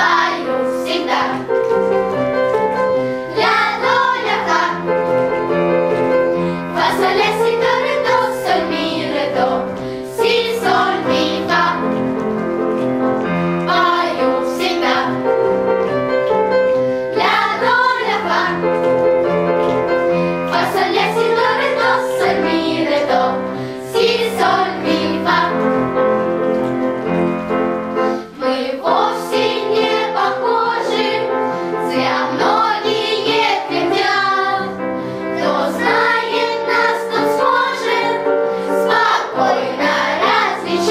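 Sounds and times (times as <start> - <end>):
children's choir singing: 0.0 - 1.8, 3.1 - 15.9, 16.9 - 27.2, 28.0 - 40.9
held instrumental accompaniment: 0.0 - 40.9.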